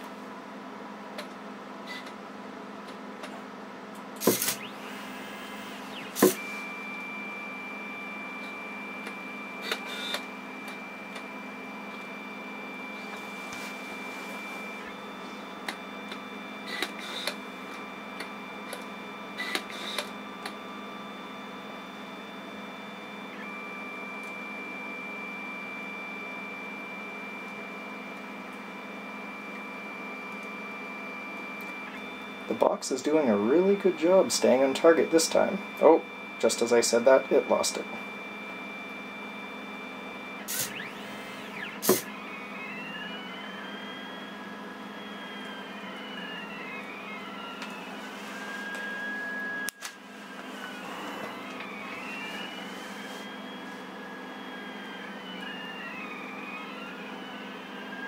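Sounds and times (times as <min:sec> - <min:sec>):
stepper motors humming and whining: 0:04.0 - 0:58.0.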